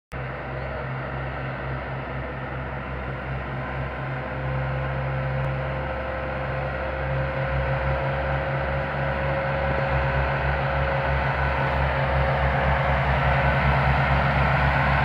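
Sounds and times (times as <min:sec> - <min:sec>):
tractor diesel engine under load: 0:00.1 - 0:15.0.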